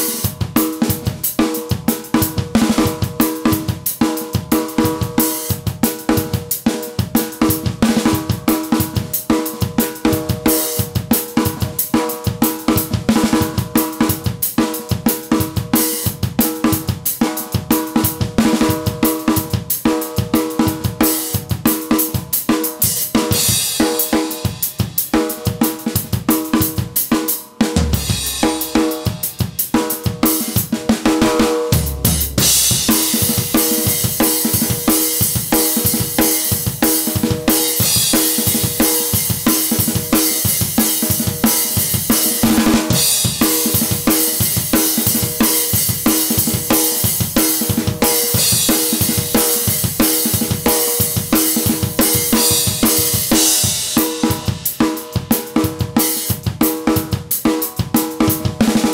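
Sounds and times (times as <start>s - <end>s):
rock drum beat: 0.0s - 58.9s.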